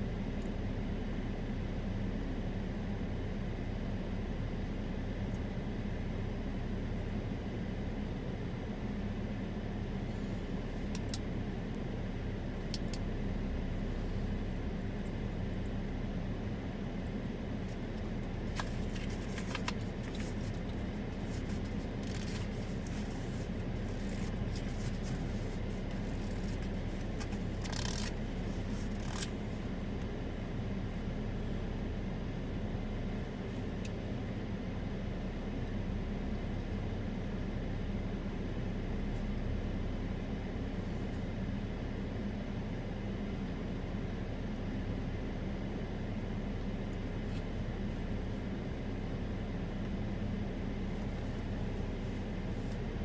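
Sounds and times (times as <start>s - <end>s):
faint hum: 0.0s - 53.0s.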